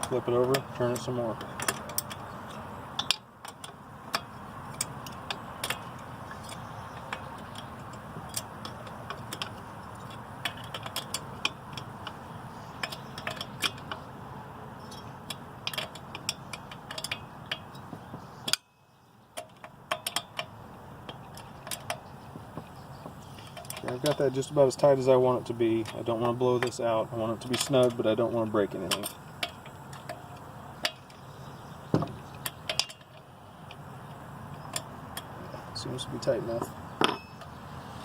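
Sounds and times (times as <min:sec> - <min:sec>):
wrench clicking on metal nuts: 0:00.0 - 0:14.0, 0:14.8 - 0:18.8, 0:19.4 - 0:31.2, 0:32.0 - 0:35.4.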